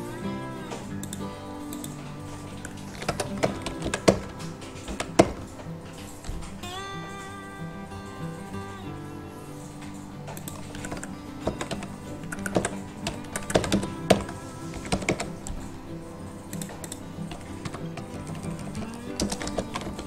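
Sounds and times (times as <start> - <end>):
quiet background music: 0.0 - 20.0.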